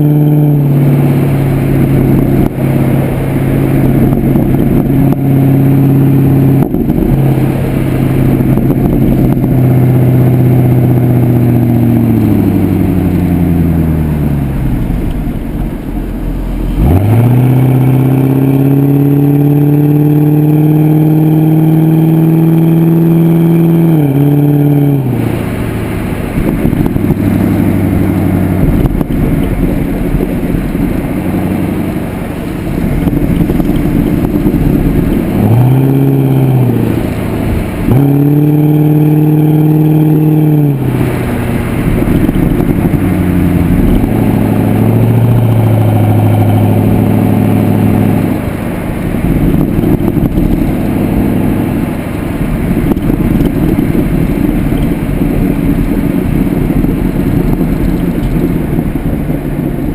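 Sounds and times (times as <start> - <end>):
car engine exhaust note: 0.0 - 59.9.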